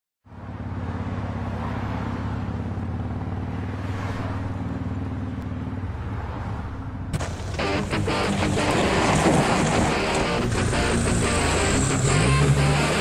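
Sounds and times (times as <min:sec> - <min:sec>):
engine droning: 0:00.3 - 0:13.0.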